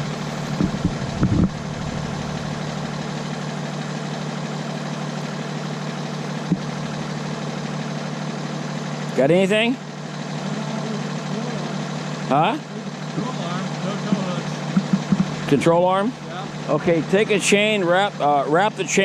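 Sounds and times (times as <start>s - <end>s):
tow truck diesel engine idling: 0.0s - 19.0s.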